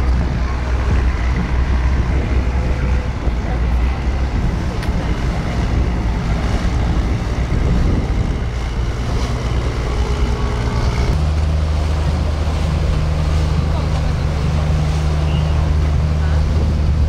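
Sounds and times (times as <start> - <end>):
boat engine humming: 0.0 - 17.0
water noise: 0.0 - 17.0
wind: 0.0 - 17.0.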